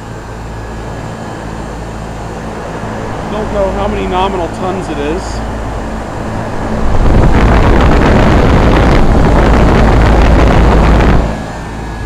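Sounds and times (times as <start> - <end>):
air buffeting microphone: 0.0 - 12.0
air conditioner fans roaring: 0.0 - 12.0.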